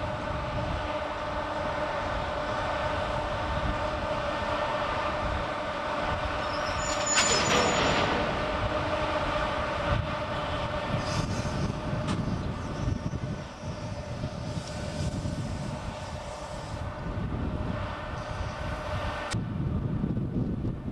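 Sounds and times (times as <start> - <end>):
electric locomotives humming: 0.0 - 20.9.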